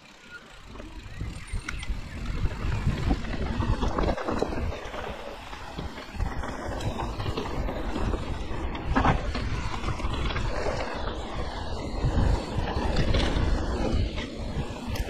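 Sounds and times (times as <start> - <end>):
bike rattling over bumps: 0.0 - 15.0
wind buffeting microphone: 0.5 - 15.0.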